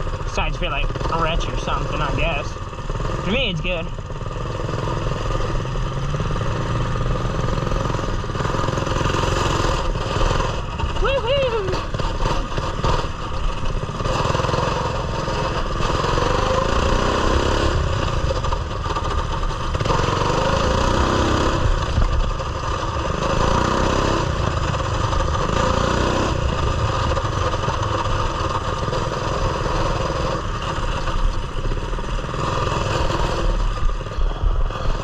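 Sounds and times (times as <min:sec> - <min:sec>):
mini bike engine revving: 0:00.0 - 0:35.0.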